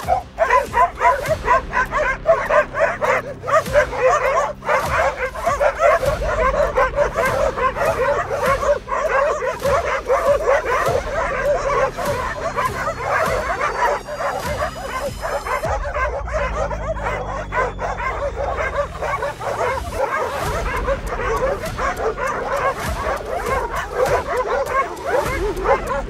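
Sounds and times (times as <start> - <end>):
dogs barking and yipping: 0.0 - 26.0.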